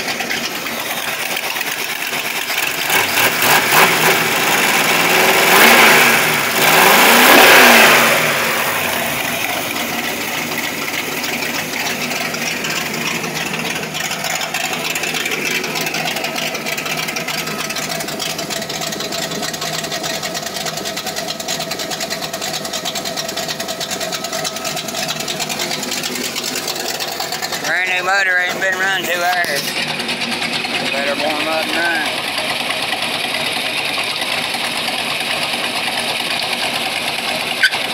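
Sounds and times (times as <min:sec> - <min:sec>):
engine revving and idling: 0:00.0 - 0:37.9.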